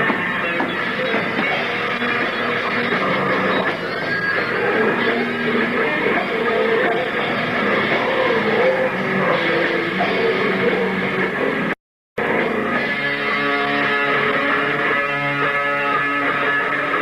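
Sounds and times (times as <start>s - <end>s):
distorted electric guitars: 0.0s - 17.0s
drum kit: 0.0s - 17.0s.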